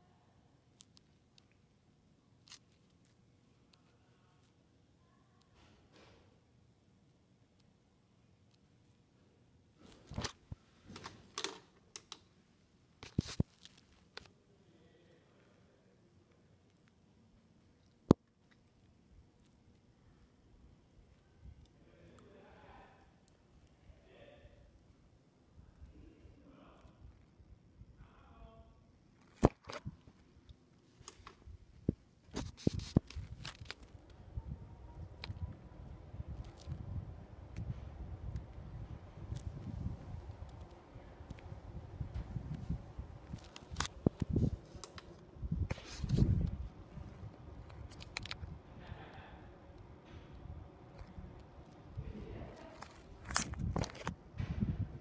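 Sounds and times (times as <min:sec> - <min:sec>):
faint steady background: 0:00.0 - 0:55.0.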